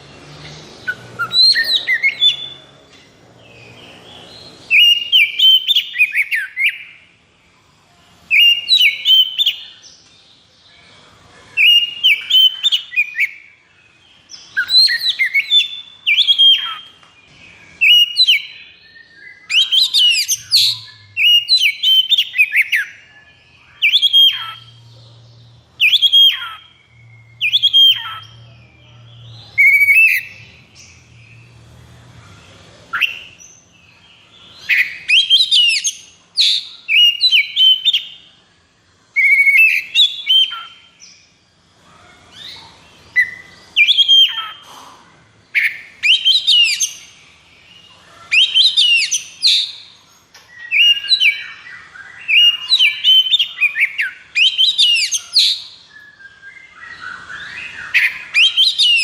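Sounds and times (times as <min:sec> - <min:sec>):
magpie-robin singing: 0:00.0 - 0:07.2, 0:08.1 - 0:41.3, 0:42.2 - 0:44.8, 0:45.5 - 0:59.0.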